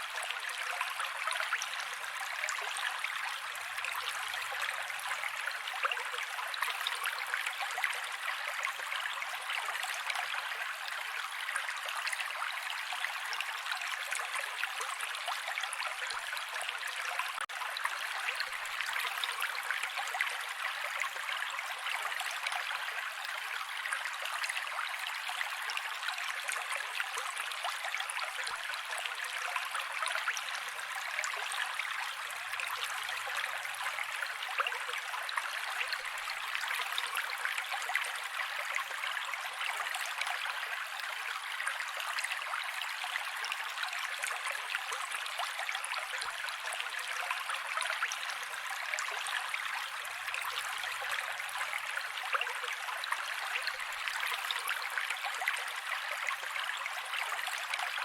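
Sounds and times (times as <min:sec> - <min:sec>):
creek water flowing: 0:00.0 - 0:58.0.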